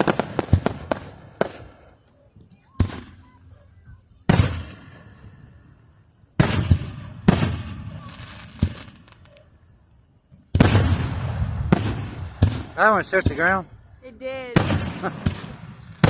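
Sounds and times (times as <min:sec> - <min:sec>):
fireworks exploding: 0:00.0 - 0:05.8, 0:06.4 - 0:09.7, 0:10.3 - 0:16.0.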